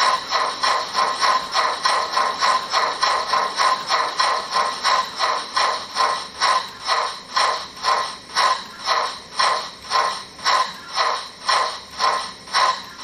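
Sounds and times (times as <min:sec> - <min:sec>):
steam chuffs from loudspeaker: 0:00.0 - 0:13.0.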